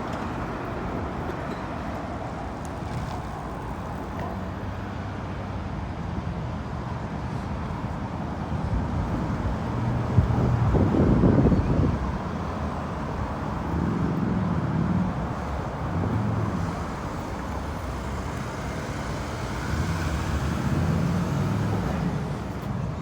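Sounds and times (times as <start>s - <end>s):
vehicle engines: 0.0s - 23.0s.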